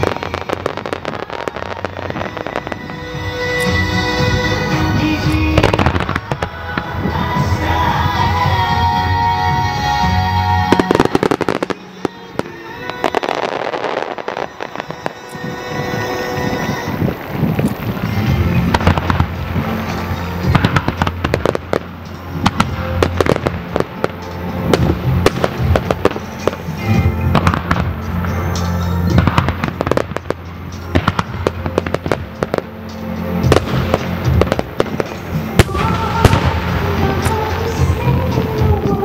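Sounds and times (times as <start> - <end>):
fireworks bursting and crackling: 0.0 - 39.0
music: 0.0 - 39.0.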